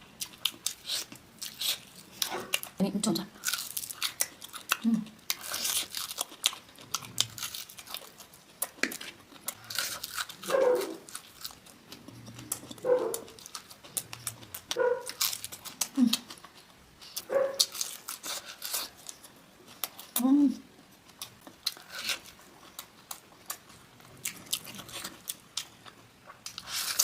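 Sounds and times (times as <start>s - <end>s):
wet chewing and smacking: 0.2s - 20.2s, 20.9s - 27.0s.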